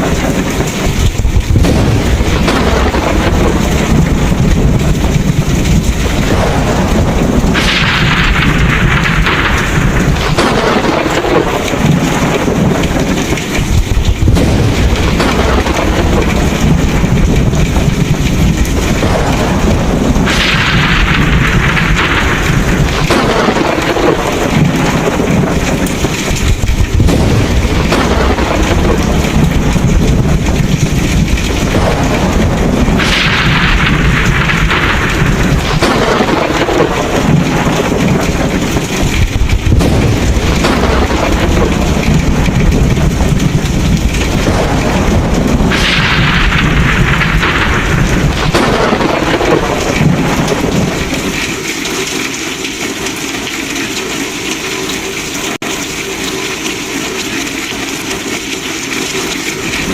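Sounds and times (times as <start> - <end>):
heavy rain: 0.0 - 59.9
rolling thunder: 0.0 - 59.9.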